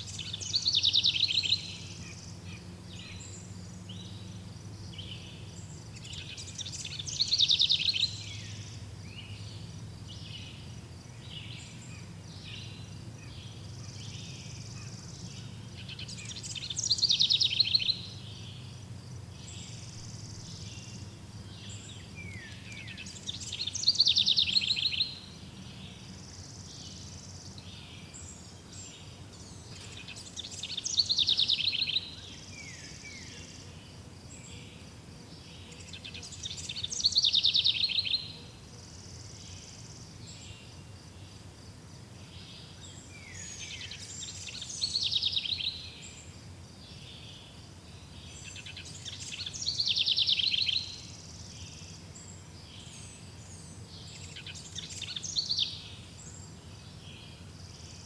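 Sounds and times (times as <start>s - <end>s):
soft bird chirps: 0.0s - 33.8s, 42.2s - 58.0s
bird song trill: 0.0s - 41.5s, 42.2s - 58.0s
insect-like hum: 0.0s - 58.0s.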